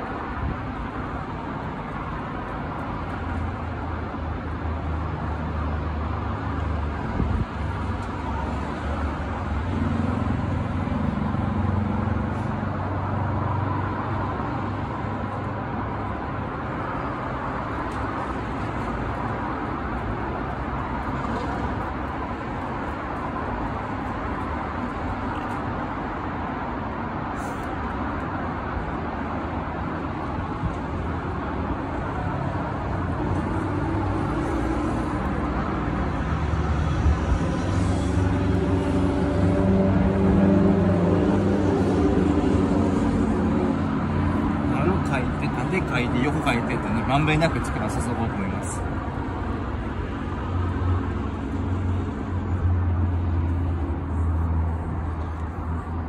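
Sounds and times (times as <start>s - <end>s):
traffic noise: 0.0s - 56.0s
vehicle engine hum: 0.0s - 56.0s.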